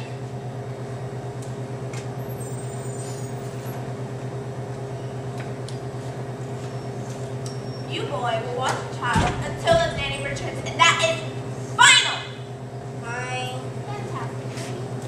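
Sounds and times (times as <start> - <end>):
pulsing machine hum: 0.0 - 15.0.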